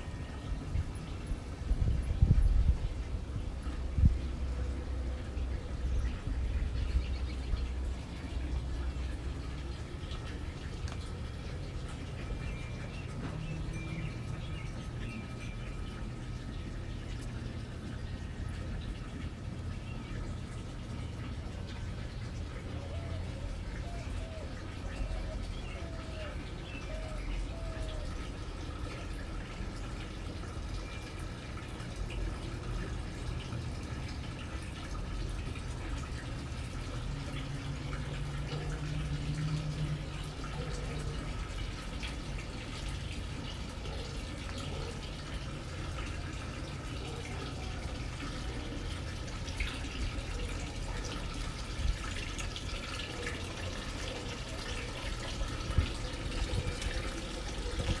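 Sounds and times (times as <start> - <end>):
fountain water trickling: 0.0 - 58.0.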